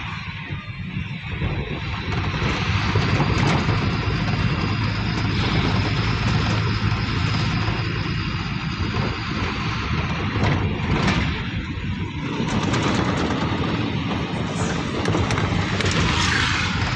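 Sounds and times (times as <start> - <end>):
low engine rumble: 0.0 - 16.9
road and wind noise: 0.0 - 16.9.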